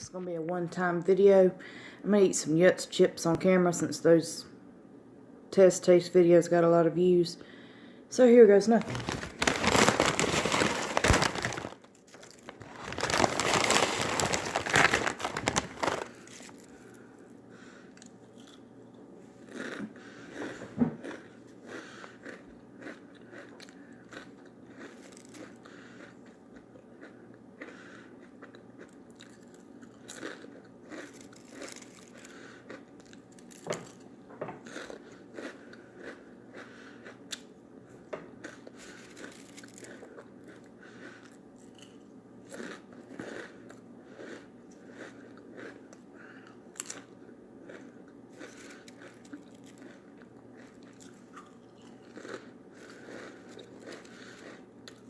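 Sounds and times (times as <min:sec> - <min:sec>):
faint steady hum: 0:00.0 - 0:55.0
crunching potato chips: 0:08.6 - 0:17.3, 0:17.9 - 0:18.7, 0:19.4 - 0:37.5, 0:38.3 - 0:55.0.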